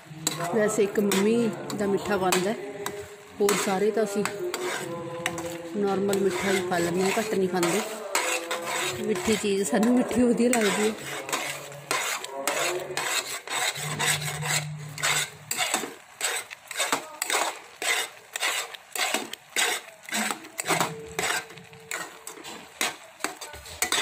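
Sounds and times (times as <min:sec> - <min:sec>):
metal spoon scraping a pan: 0:00.0 - 0:24.0.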